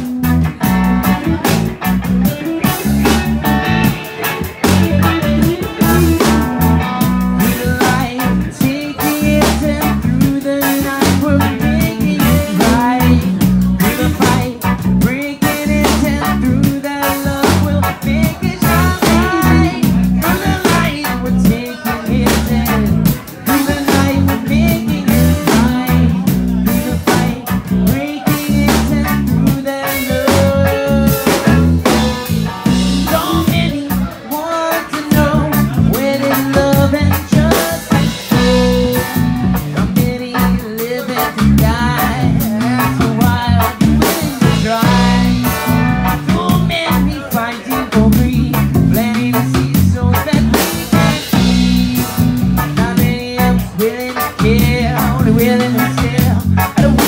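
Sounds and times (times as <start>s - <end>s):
live reggae band playing: 0.0s - 57.0s.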